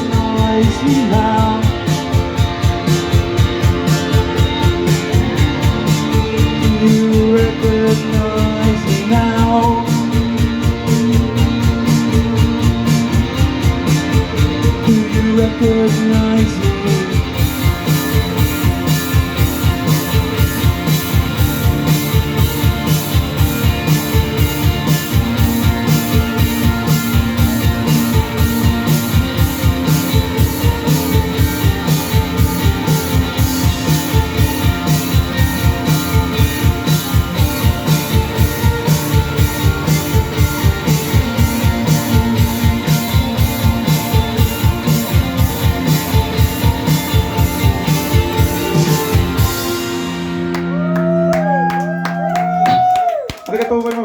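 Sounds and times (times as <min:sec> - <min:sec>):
electric guitars: 0:00.0 - 0:53.9
drum kit beat: 0:00.0 - 0:54.0.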